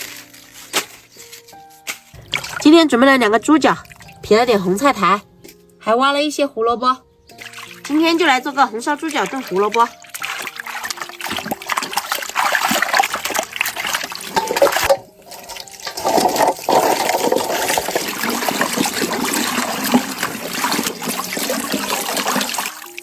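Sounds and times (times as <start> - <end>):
water running and splashing: 2.1 - 5.3, 7.2 - 23.0.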